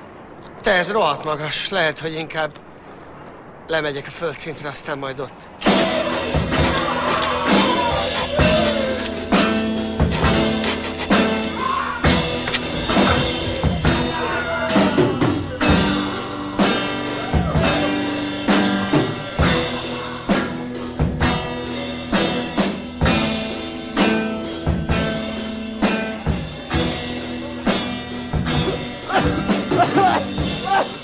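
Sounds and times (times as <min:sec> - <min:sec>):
drum kit beat: 0:05.6 - 0:31.0.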